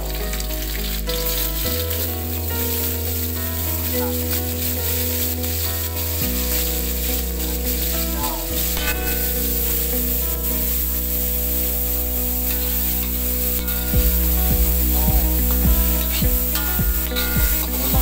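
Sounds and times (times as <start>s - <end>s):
background music of held chords: 0.0s - 18.0s
paste sizzling in hot oil: 0.0s - 18.0s.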